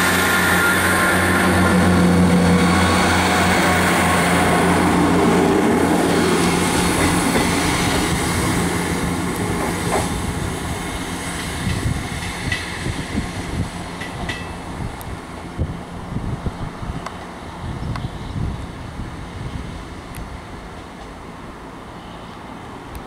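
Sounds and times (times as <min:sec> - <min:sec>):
rail rumble: 0:00.0 - 0:21.9
diesel train engine hum: 0:00.0 - 0:23.0.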